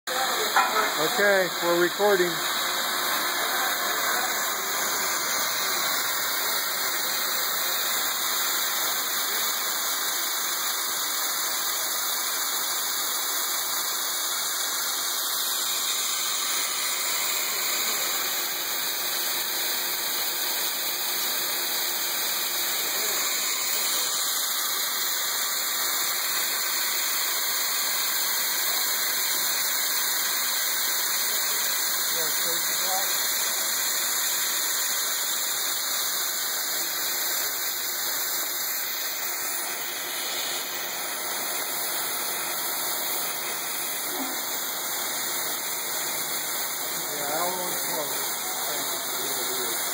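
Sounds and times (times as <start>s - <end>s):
milling machine cutting metal: 0.1s - 49.9s.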